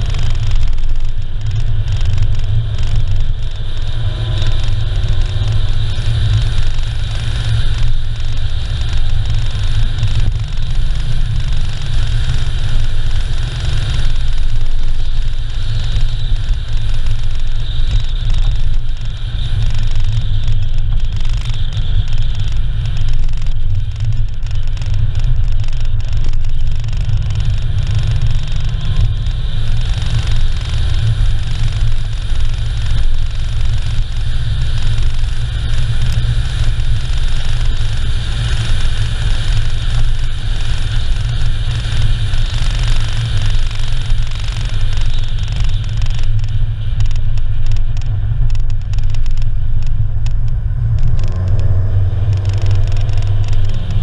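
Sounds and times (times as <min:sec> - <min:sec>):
tyre road noise: 0:00.0 - 0:54.0
wind buffeting camera: 0:00.0 - 0:54.0.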